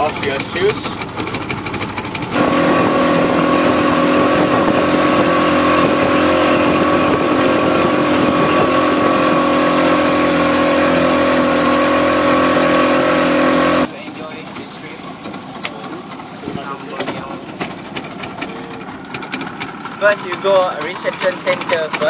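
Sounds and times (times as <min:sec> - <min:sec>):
outboard boat engine: 0:00.0 - 0:22.0
rush of boat wake: 0:00.0 - 0:22.0.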